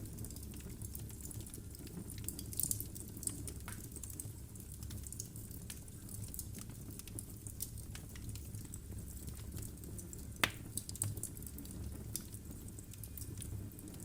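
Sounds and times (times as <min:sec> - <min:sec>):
logs crackling in a fireplace: 0:00.0 - 0:14.0.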